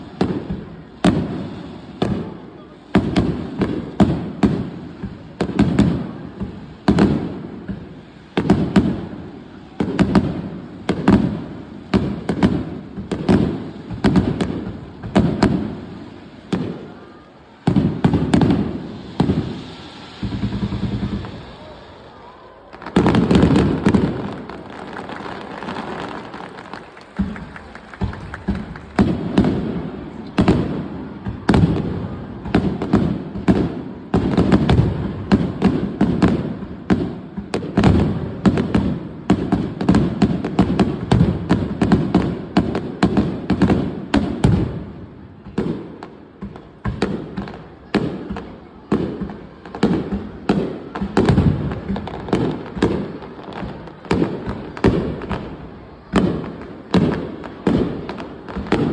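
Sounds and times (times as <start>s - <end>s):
fireworks bursting: 0.0s - 58.9s.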